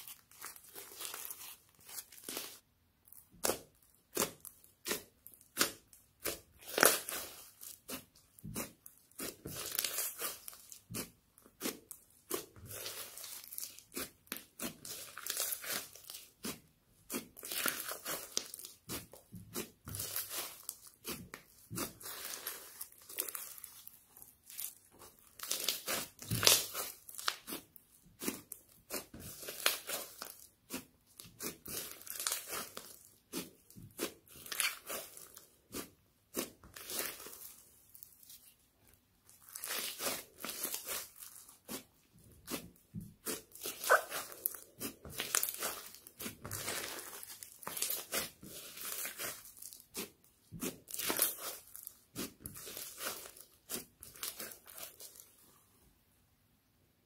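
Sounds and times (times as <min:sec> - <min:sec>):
foam slime crackling: 0:00.0 - 0:38.6, 0:39.2 - 0:55.6.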